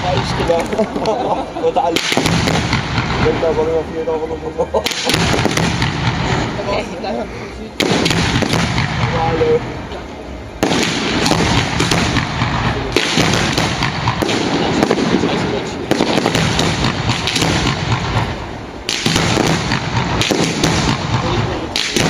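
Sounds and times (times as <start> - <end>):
fireworks crackling and banging: 0.0 - 7.1, 7.7 - 22.0.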